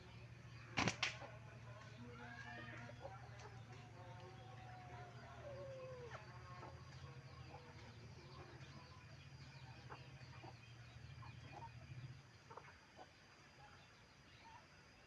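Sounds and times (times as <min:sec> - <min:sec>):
low steady hum: 0:00.0 - 0:15.0
chickens clucking: 0:00.8 - 0:13.2.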